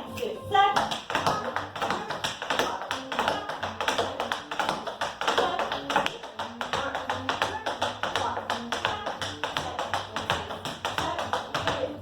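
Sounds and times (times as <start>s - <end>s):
tap shoes clicking on floor: 0.8s - 12.0s.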